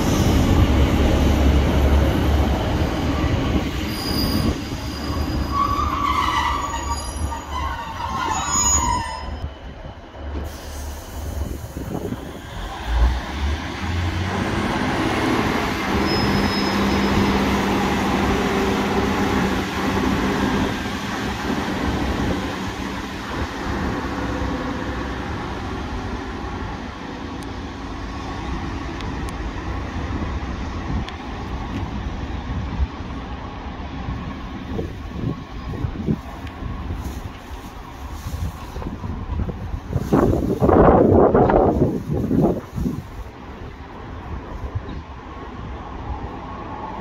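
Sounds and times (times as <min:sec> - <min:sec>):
diesel train pulling away: 0:00.0 - 0:41.4.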